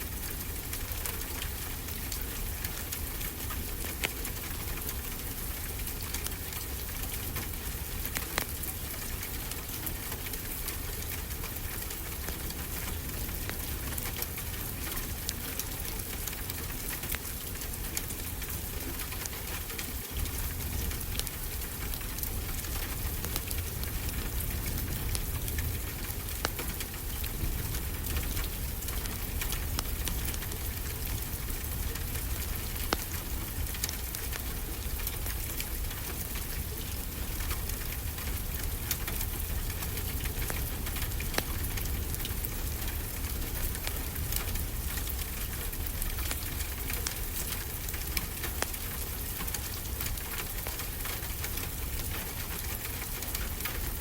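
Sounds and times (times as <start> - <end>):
steady rain falling: 0.0 - 54.0
wood fire crackling: 0.0 - 54.0.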